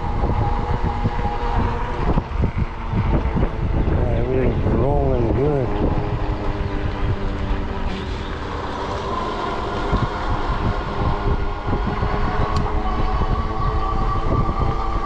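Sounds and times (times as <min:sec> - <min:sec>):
e-bike drive and tires whining: 0:00.0 - 0:15.0
wind rumbling on microphone: 0:00.0 - 0:15.0.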